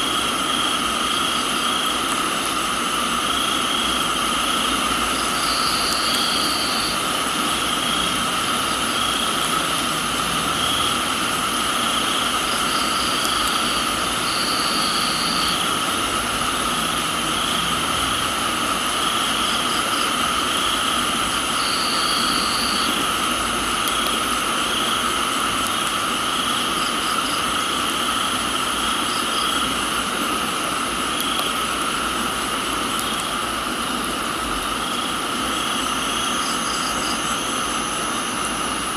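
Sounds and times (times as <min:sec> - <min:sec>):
higher insect trill: 0:00.0 - 0:30.0, 0:34.3 - 0:38.9
crickets and insects trilling: 0:00.0 - 0:38.9
steady rain: 0:00.0 - 0:38.9.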